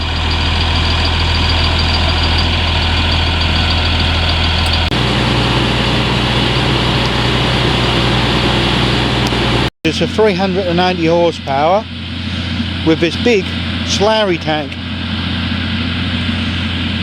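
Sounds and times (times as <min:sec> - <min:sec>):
heavy diesel tractor engine: 0:00.0 - 0:17.0.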